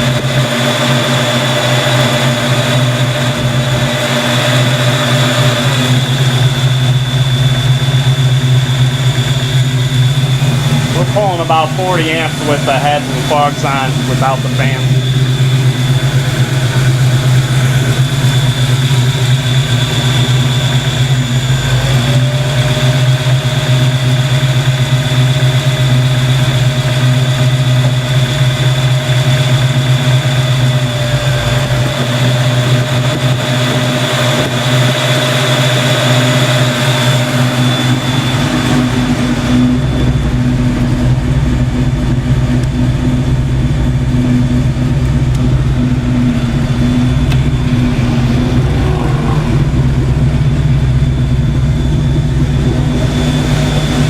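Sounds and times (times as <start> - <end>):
rushing noise: 0.0 - 25.1, 29.8 - 54.0
car engine idling: 0.0 - 54.0
steady high whine: 0.0 - 54.0.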